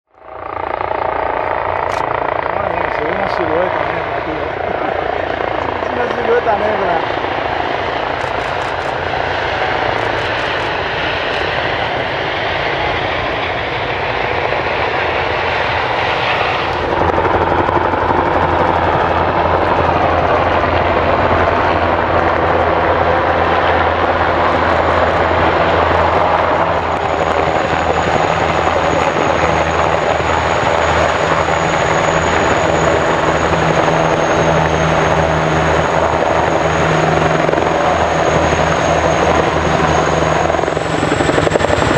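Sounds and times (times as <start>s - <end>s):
helicopter rotor noise: 0.1s - 41.9s
high turbine whine: 0.1s - 41.9s.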